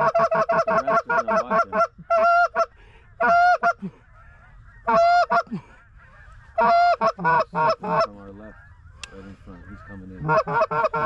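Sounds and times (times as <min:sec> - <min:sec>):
goose call honks and clucks: 0:00.0 - 0:11.0.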